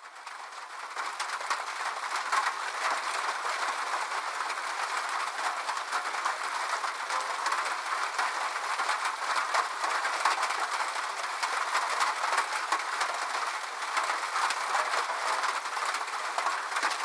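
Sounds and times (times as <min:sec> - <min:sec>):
rain on a roof: 0:00.0 - 0:17.0.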